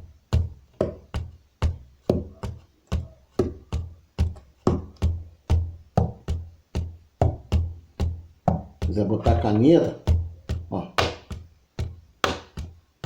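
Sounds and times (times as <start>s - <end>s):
hands drumming on wooden tabletop: 0.0s - 13.0s.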